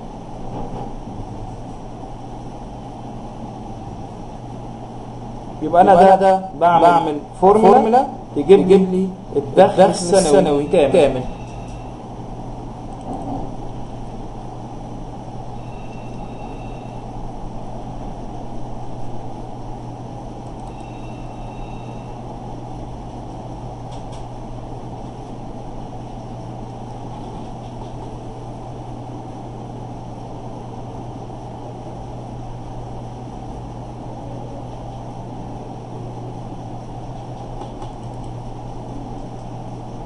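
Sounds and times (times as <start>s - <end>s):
low hum with hiss: 0.0s - 40.0s.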